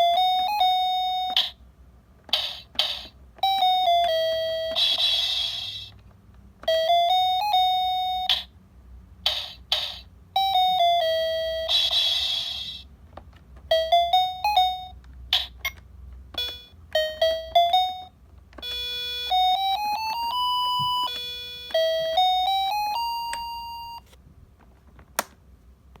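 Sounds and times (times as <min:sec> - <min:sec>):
toy keyboard chime-like notes: 0:00.0 - 0:01.6, 0:02.3 - 0:05.9, 0:06.6 - 0:08.5, 0:09.3 - 0:12.8, 0:13.7 - 0:24.1.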